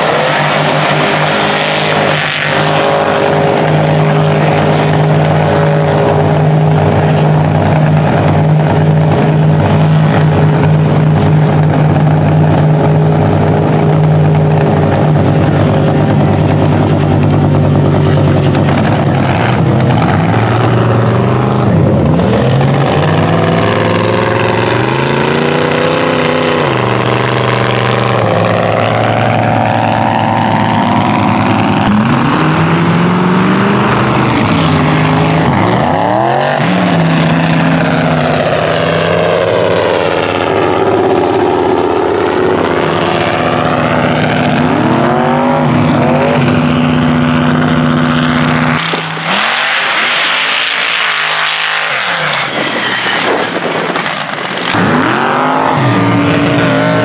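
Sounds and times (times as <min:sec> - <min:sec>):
truck engine revving hard: 0:00.0 - 0:57.0.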